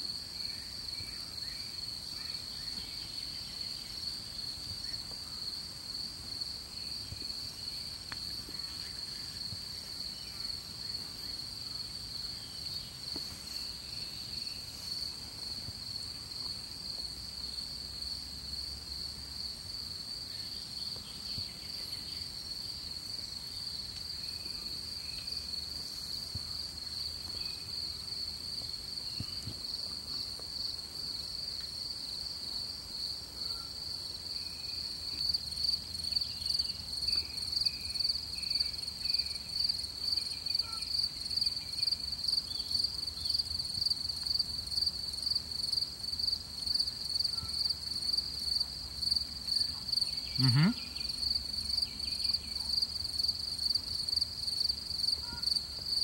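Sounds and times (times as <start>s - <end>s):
insects chirring in grass: 0.0s - 56.0s.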